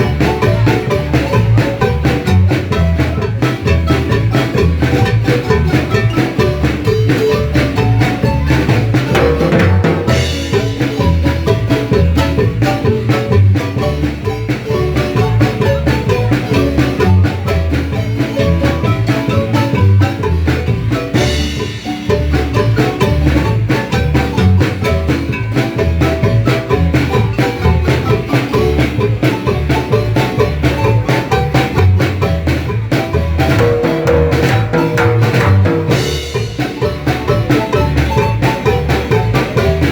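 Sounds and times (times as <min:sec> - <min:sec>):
marimba music with percussion: 0:00.0 - 0:39.9
pulsing bass beat: 0:00.0 - 0:39.9.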